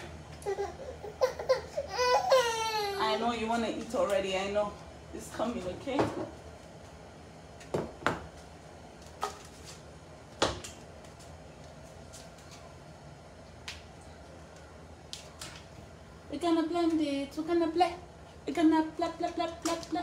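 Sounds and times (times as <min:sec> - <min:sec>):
faint background hum: 0:00.0 - 0:20.0.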